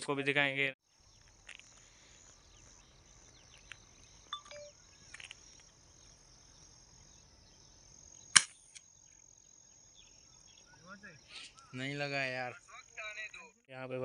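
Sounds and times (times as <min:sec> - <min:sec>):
high insect chirring: 0:00.8 - 0:13.6.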